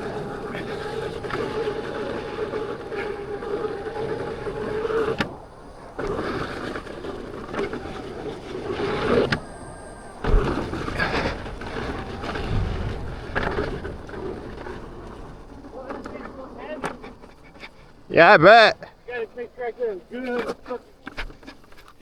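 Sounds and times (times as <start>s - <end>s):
electric motor whine: 0.0s - 18.1s
rolling noise: 0.0s - 22.0s.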